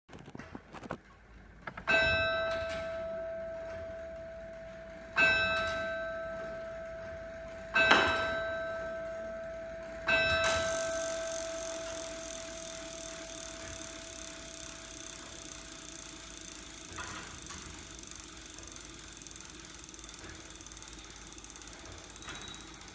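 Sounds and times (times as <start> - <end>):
clock bell striking: 1.9 - 22.9.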